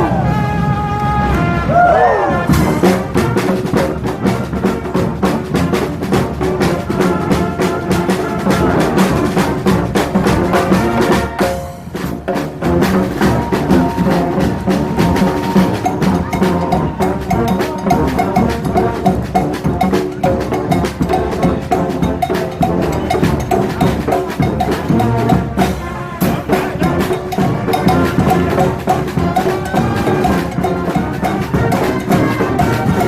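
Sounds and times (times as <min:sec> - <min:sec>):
marching band horns: 0:00.0 - 0:33.0
drums with bass drum and snare: 0:02.5 - 0:33.0.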